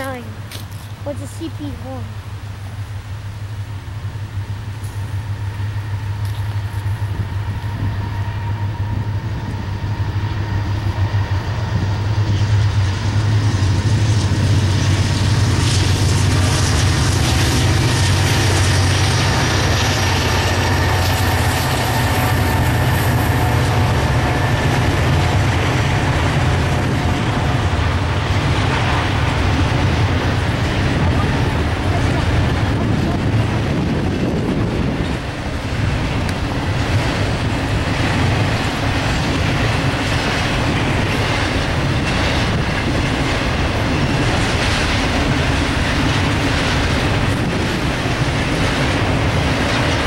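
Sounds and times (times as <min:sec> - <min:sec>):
diesel locomotive humming: 0:00.0 - 0:50.0
freight cars rolling on rails: 0:02.2 - 0:50.0.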